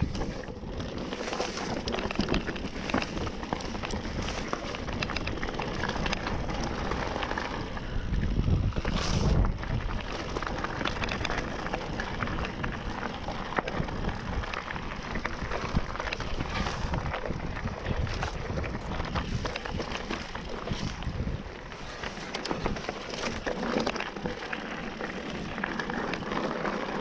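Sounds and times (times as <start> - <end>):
wind buffeting microphone: 0.0 - 24.5
bike rattling: 0.0 - 27.0
tyres crunching over stones: 0.0 - 27.0.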